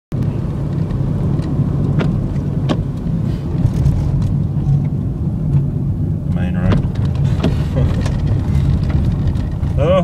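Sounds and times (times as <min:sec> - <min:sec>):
car engine and tyre rumble: 0:00.1 - 0:10.0.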